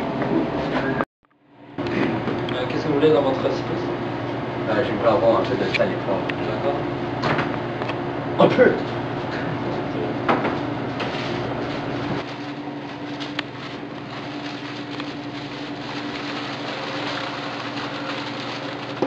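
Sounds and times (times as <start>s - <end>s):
machine hum and hiss: 1.7s - 19.0s.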